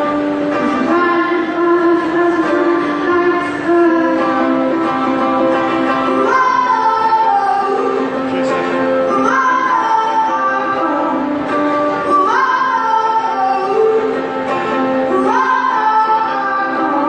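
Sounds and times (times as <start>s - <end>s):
girl singing into a microphone: 0.0s - 17.0s
strummed ukulele: 0.0s - 17.0s.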